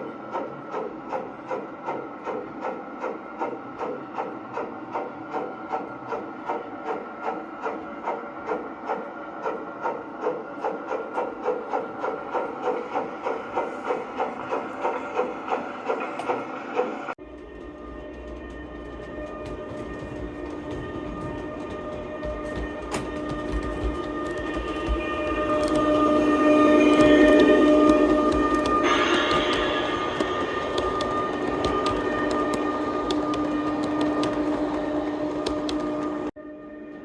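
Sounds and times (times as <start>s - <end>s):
model train running: 0.0s - 36.3s.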